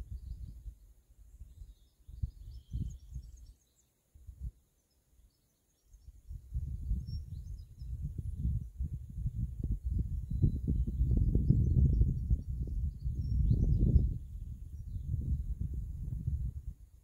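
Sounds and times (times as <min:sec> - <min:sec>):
wind buffeting microphone: 0:00.0 - 0:00.8, 0:01.4 - 0:03.5, 0:06.0 - 0:17.0
faint bird chirps: 0:00.0 - 0:09.2, 0:09.9 - 0:15.7.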